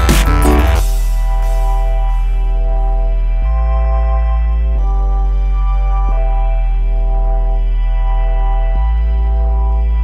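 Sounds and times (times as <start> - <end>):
held chords over deep bass: 0.0 - 10.0.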